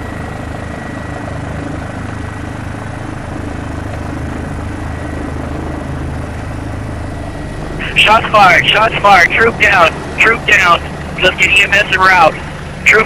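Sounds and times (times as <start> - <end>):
helicopter rotor droning: 0.0 - 13.0.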